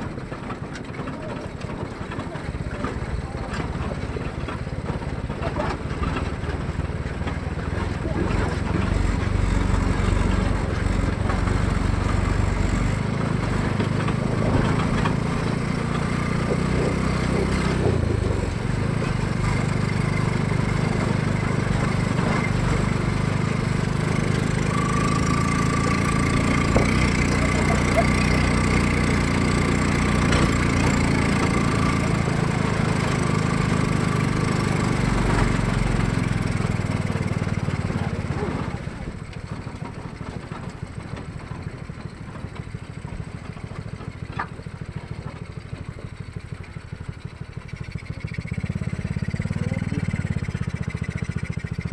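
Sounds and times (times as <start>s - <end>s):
motorcycle engine revving: 1.9s - 51.9s.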